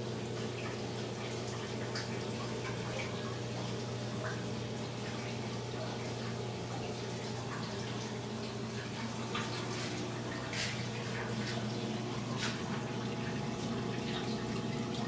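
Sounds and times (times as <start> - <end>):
constant low hum: 0.0 - 15.0
water drips: 0.0 - 15.0
water trickling and splashing: 0.0 - 15.0.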